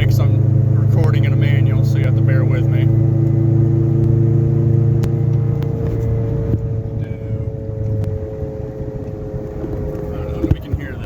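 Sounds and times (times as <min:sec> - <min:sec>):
car engine: 0:00.0 - 0:11.0
tyre and road noise: 0:00.0 - 0:11.0.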